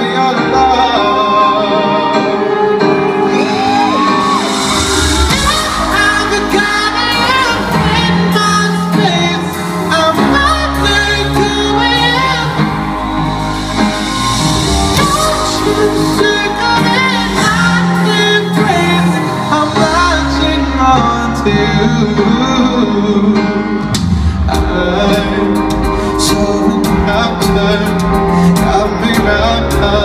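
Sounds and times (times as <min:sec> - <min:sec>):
lead vocal singing: 0:00.0 - 0:30.0
live pop ballad: 0:00.0 - 0:30.0
deep bass: 0:04.3 - 0:30.0.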